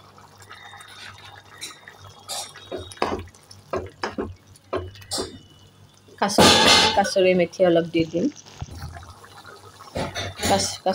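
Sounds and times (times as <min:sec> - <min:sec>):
soft bubbling liquid: 0:00.0 - 0:10.9.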